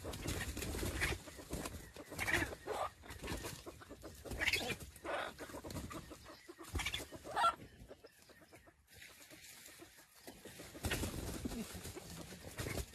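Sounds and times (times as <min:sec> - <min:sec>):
chickens clucking: 0:00.0 - 0:12.9.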